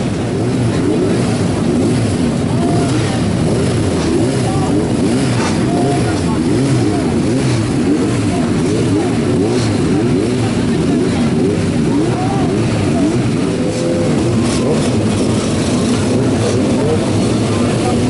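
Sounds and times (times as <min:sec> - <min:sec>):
racing motorcycle engines revving: 0:00.0 - 0:18.0.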